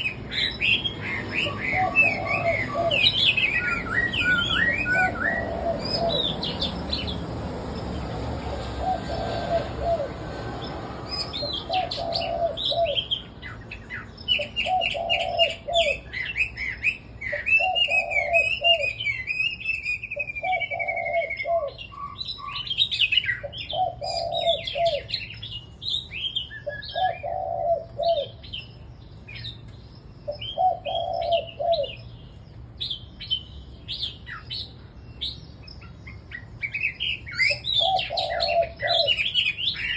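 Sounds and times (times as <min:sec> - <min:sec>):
birds chirping and warbling: 0:00.0 - 0:39.9.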